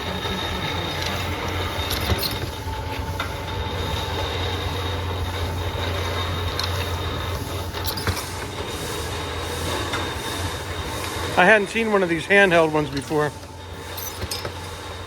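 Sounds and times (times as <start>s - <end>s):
high-pitched whine: 0.0s - 15.0s
machinery low hum: 0.0s - 15.0s.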